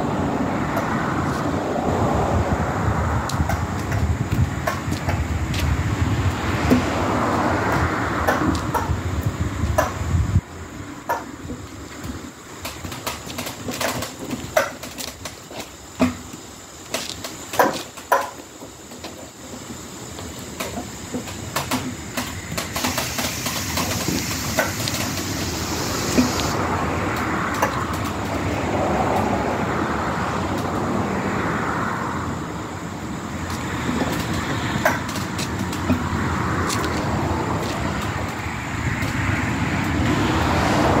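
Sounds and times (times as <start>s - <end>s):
pallet jack wheels rumbling: 0.0s - 30.9s, 32.4s - 41.0s.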